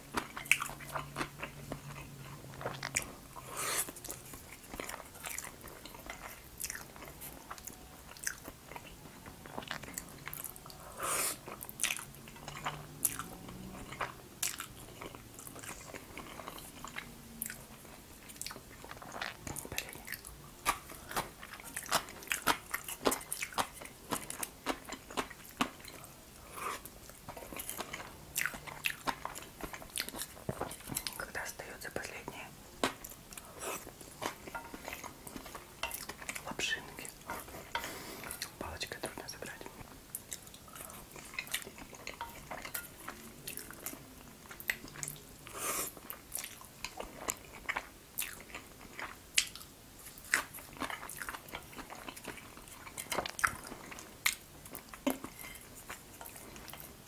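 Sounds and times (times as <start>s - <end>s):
chewing and mouth sounds: 0.0s - 57.0s.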